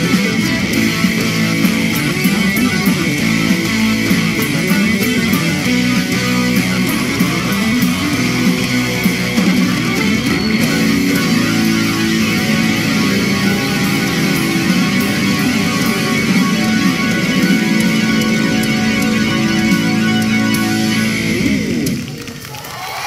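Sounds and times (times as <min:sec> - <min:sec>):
instrumental theme music: 0:00.0 - 0:22.2.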